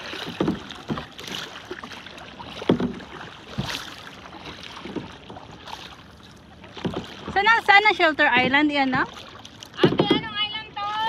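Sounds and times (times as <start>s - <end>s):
kayak paddle splashing: 0.0s - 11.0s
water washing along hull: 0.0s - 11.0s.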